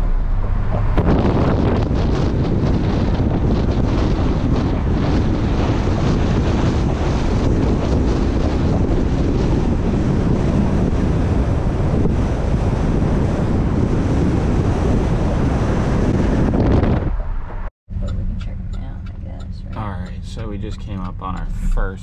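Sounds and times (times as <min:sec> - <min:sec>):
car road noise: 0:00.0 - 0:22.0
wind buffeting microphone: 0:00.0 - 0:22.0.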